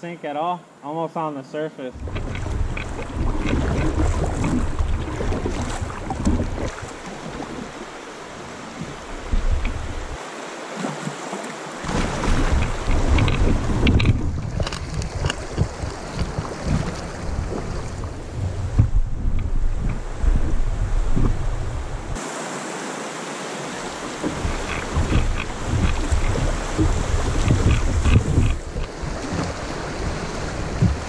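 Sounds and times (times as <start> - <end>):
water sloshing and splashing: 1.9 - 31.0
paddle clicks: 2.0 - 10.2, 10.8 - 22.2, 23.8 - 31.0
wind rumbling on microphone: 2.0 - 10.2, 11.8 - 22.2, 23.9 - 31.0.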